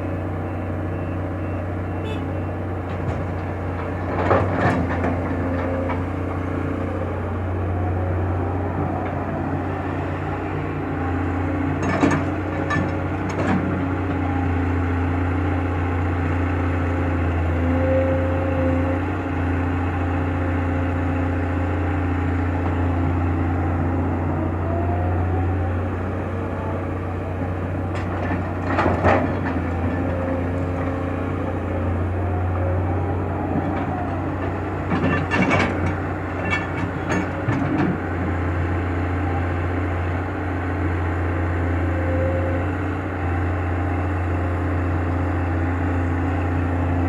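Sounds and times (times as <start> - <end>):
excavator diesel engine droning: 0.0 - 47.0.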